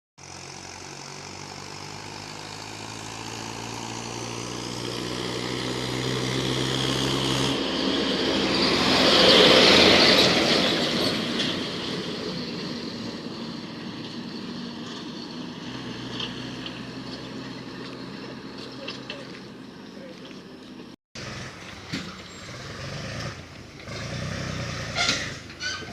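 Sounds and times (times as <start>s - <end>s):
heavy diesel vehicle passing: 0.2s - 25.9s.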